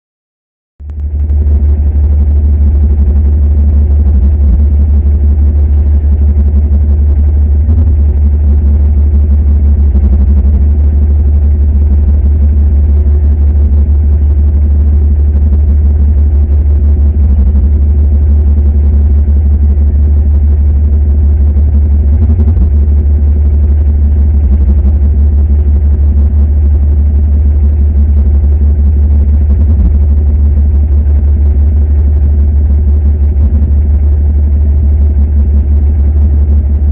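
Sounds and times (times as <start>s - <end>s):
heavy diesel engine running: 1.1s - 36.9s.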